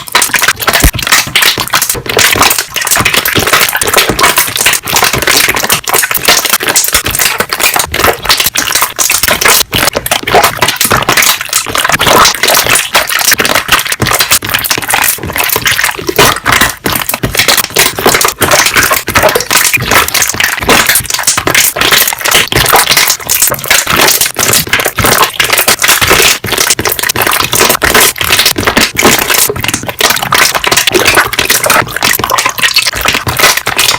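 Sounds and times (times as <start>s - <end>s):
slime air bubbles popping: 0.0s - 33.9s.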